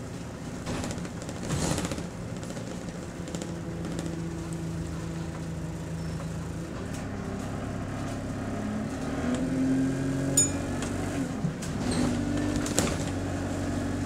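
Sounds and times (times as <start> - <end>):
bus engine whine: 0.0 - 14.0.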